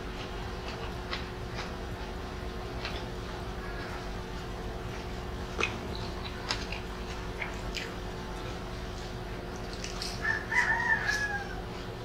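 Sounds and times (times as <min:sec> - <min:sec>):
food eaten by hand: 0:00.0 - 0:12.0.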